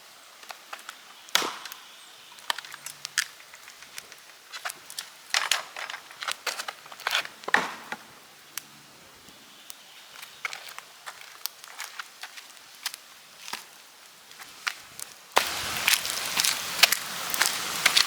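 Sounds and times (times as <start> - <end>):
bicycle tyres crunching on gravel: 0.0 - 18.0.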